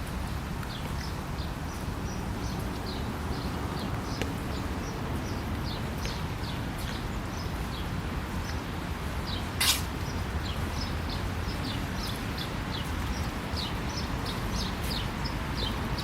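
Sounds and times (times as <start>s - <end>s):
footsteps on wet path: 0.0s - 15.9s
distant city traffic rumble: 0.0s - 16.0s.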